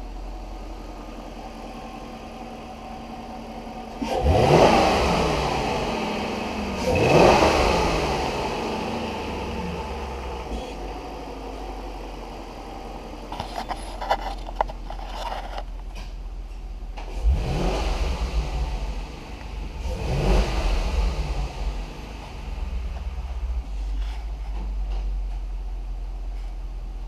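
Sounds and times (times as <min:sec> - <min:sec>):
car engine running and revving: 0:00.0 - 0:16.2, 0:16.8 - 0:27.0.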